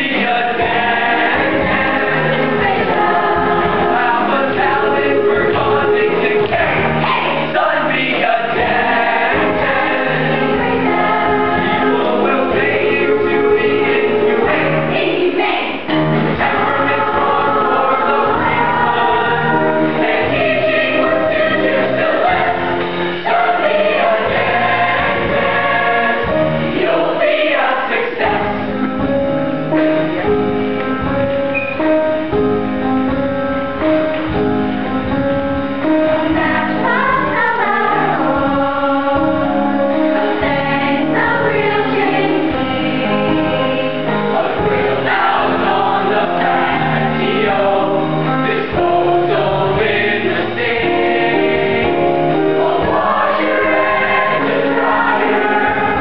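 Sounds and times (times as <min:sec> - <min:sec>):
children's choir singing: 0:00.0 - 0:30.4, 0:35.7 - 0:56.0.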